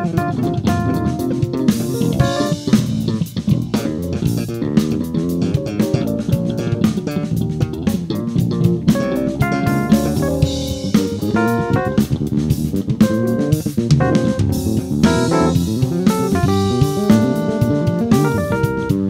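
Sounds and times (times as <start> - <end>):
funk band playing: 0.0 - 19.0.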